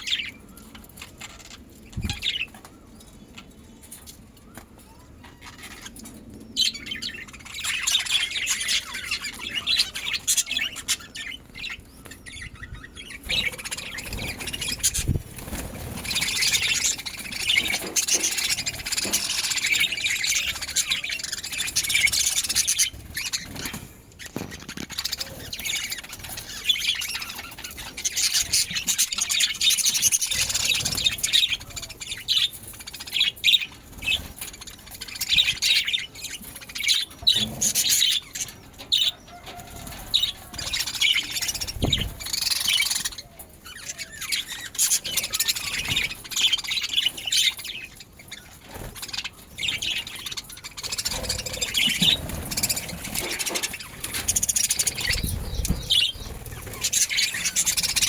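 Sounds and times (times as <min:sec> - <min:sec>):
budgerigars chattering: 0:06.7 - 0:39.6, 0:40.2 - 0:58.0.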